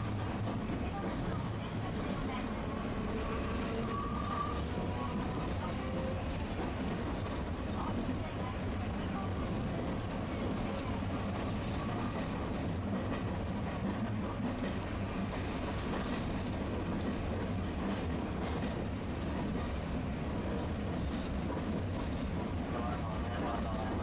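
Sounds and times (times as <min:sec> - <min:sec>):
streetcar motor and wheels rumbling: 0:00.0 - 0:24.0.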